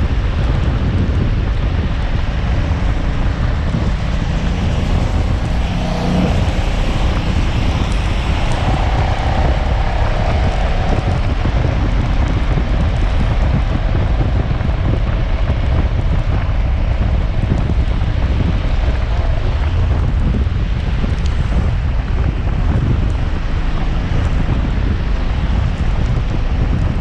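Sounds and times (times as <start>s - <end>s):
motorcycle engine running: 0.0s - 27.0s
wind buffeting microphone: 0.0s - 27.0s.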